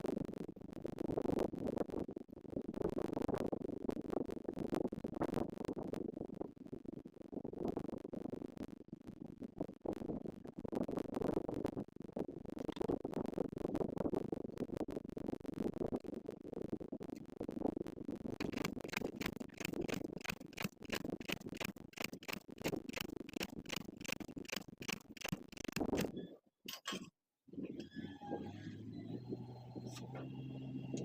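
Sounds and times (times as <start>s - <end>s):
fast regular clatter of clicks: 0.1s - 27.1s.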